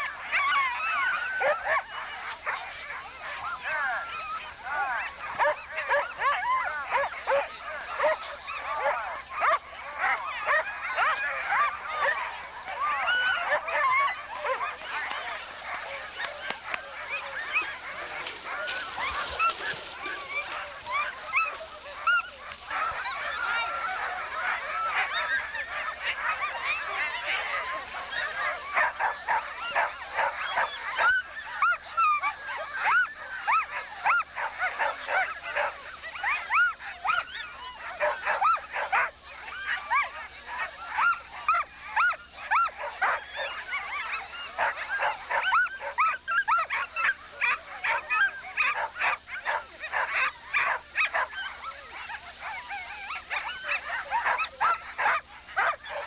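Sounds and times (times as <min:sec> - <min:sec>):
dogs barking and yelping: 0:00.0 - 0:56.0.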